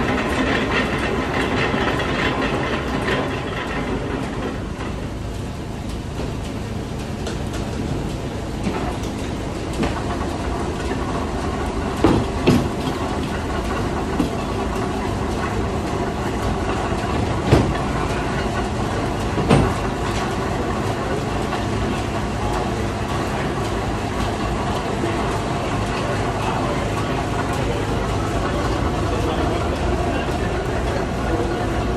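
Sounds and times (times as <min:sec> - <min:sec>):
cider press machinery running: 0:00.0 - 0:31.9.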